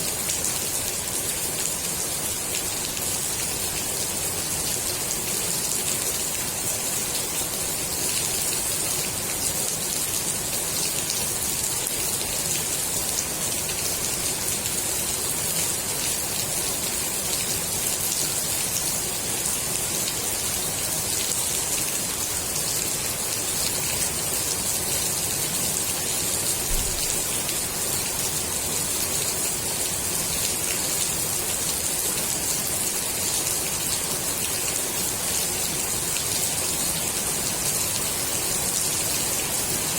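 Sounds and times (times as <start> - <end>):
rain falling on pool water: 0.0 - 39.9.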